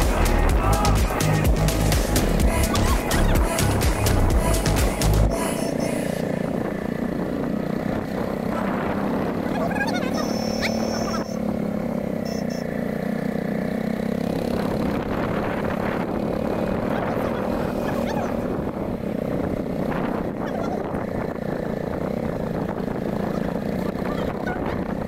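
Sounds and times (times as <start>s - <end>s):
motorcycle engine cruising: 0.0s - 25.0s
road noise: 0.0s - 25.0s.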